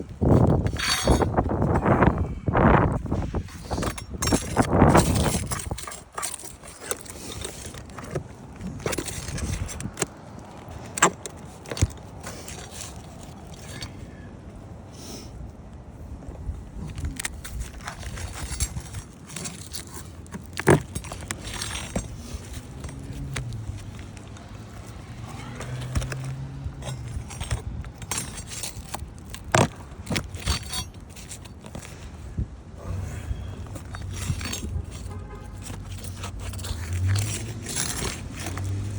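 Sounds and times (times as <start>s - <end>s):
scraping on roof shingles: 0.0s - 14.1s, 16.7s - 32.4s, 33.1s - 38.9s.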